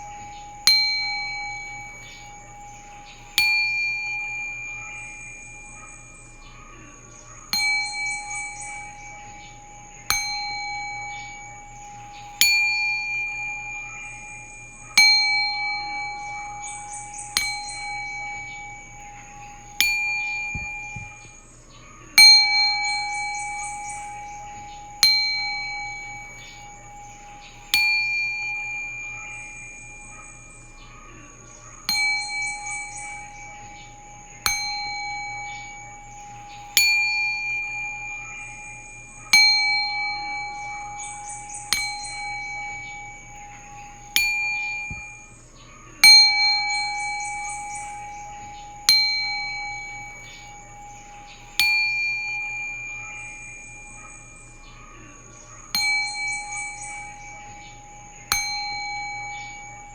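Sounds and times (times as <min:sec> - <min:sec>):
low sustained tone: 0:00.0 - 0:59.9
singing bowls struck ringing: 0:00.0 - 0:59.9.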